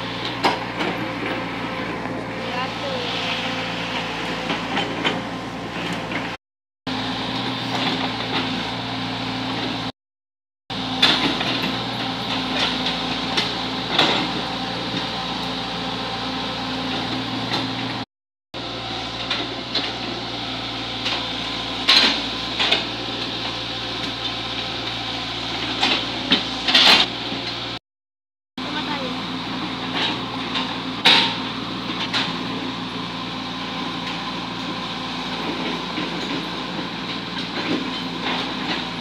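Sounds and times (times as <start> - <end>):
excavator diesel engine running: 0.0 - 9.9, 10.7 - 18.0, 18.6 - 27.8, 28.6 - 39.0.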